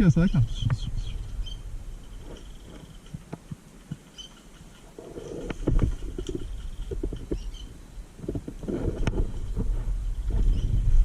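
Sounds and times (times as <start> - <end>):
rustling: 1.2 - 11.0.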